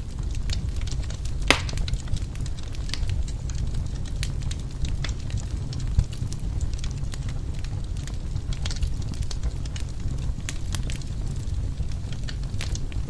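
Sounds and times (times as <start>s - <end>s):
log fire crackling: 0.0s - 13.0s.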